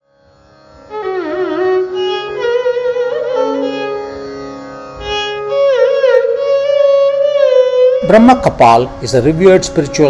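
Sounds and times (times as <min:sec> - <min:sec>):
melody instrument sliding between notes: 0:00.9 - 0:10.0.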